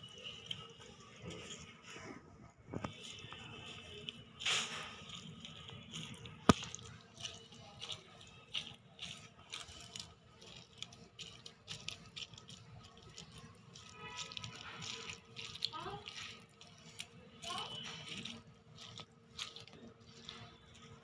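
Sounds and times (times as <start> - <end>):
food squishing by hand: 0.0 - 21.0.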